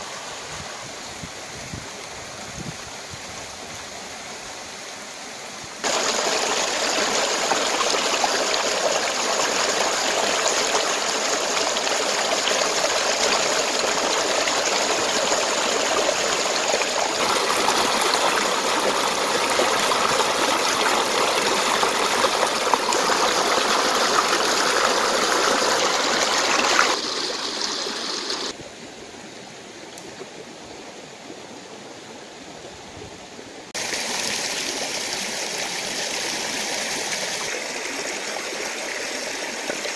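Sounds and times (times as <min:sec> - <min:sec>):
stream rushing over rocks: 0:00.0 - 0:28.6, 0:33.7 - 0:39.9.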